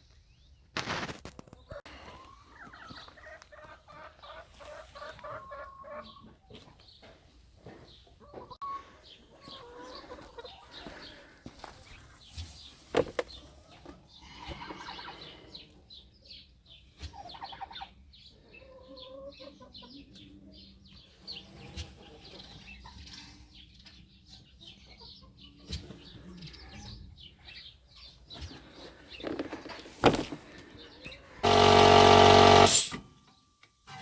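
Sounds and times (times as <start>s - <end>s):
chickens clucking: 1.2s - 31.5s
birds chirping: 1.5s - 31.5s.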